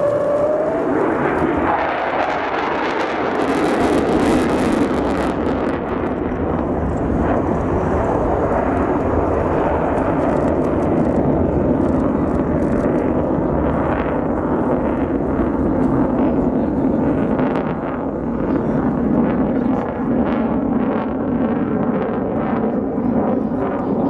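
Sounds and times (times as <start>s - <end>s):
jet engine crackling: 0.0s - 24.0s
jet engine roar: 0.0s - 24.0s.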